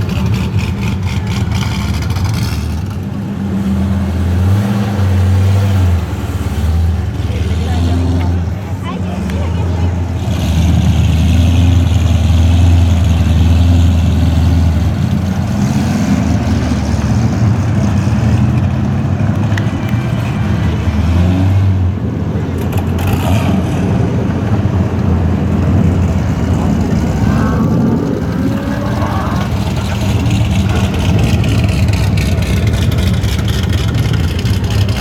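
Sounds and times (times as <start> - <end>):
deep exhaust rumble: 0.0 - 35.0.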